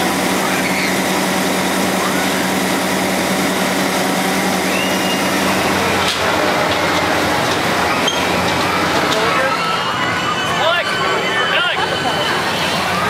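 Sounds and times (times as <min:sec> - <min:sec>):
crowd voices: 0:00.0 - 0:13.0
ride machinery humming: 0:00.0 - 0:13.0.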